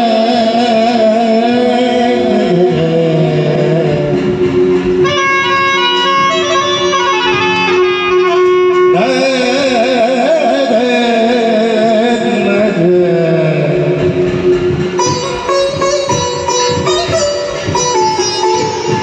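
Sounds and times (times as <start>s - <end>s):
shehnai melody: 0.0s - 11.8s, 13.6s - 19.0s
steady drone: 0.0s - 19.0s.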